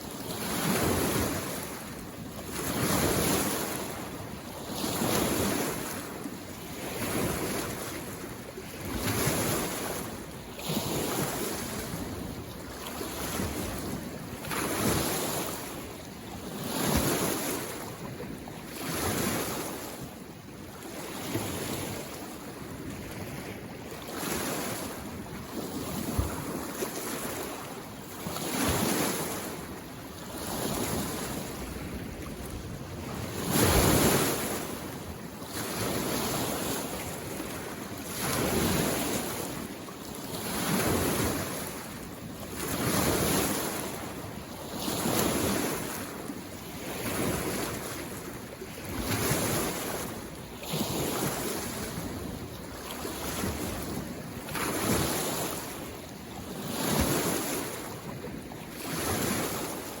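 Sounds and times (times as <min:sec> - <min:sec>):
small waves washing on shore: 0:00.0 - 1:00.0.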